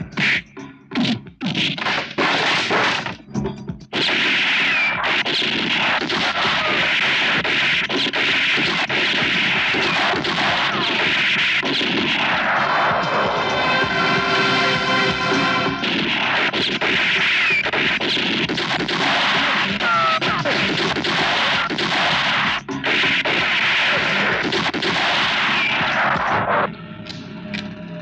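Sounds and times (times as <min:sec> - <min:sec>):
continuous gunfire barrage: 0:00.0 - 0:03.2, 0:03.9 - 0:26.7
film score music: 0:00.0 - 0:28.0
gunshots: 0:01.4 - 0:03.2, 0:03.9 - 0:13.9, 0:15.1 - 0:26.7.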